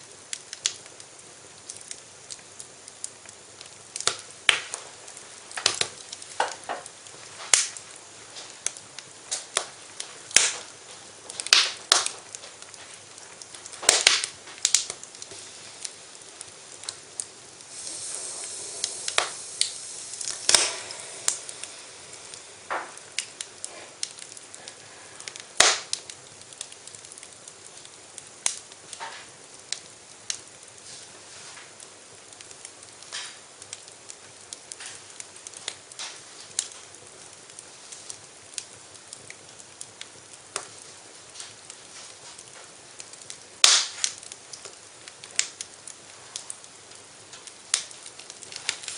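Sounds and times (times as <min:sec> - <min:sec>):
fire crackling and popping: 0:00.0 - 0:48.9
low hiss of fire: 0:00.0 - 0:48.9.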